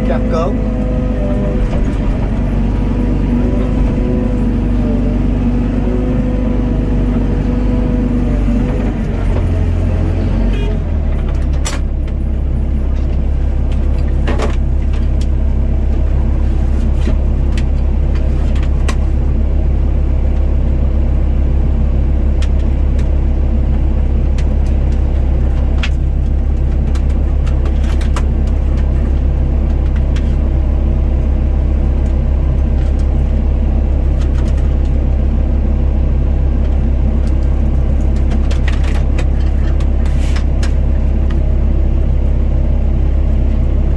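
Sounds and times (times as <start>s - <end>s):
diesel engine drone: 0.0s - 43.9s.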